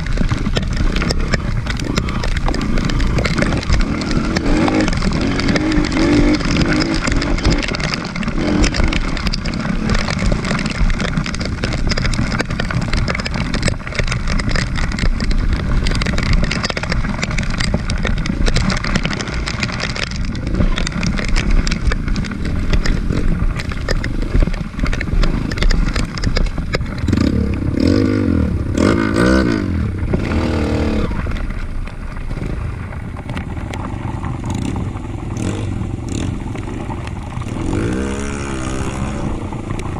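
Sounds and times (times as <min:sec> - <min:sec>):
engine clattering: 0:00.0 - 0:39.9
motorcycle engine revving: 0:00.0 - 0:39.9.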